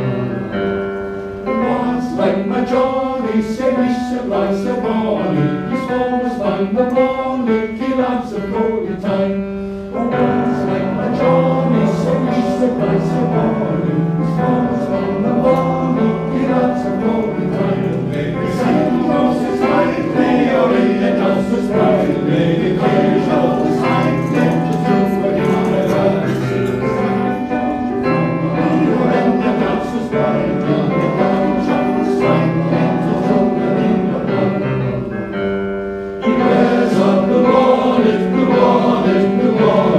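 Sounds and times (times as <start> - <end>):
male choir singing: 1.4 - 35.4, 36.2 - 39.9.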